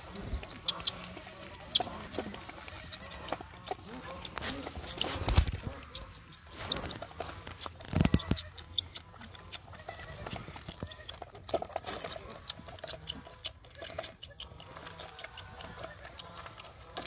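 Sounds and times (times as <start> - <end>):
goat kid sucking bottle: 0.0 - 17.0.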